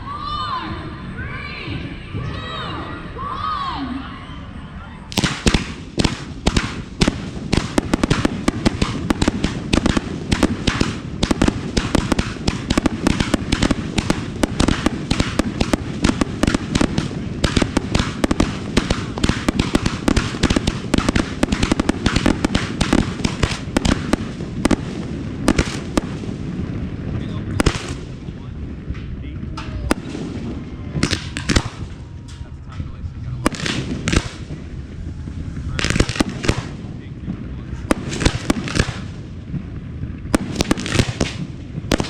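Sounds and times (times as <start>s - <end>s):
fireworks bangs and crackles: 5.1s - 42.0s.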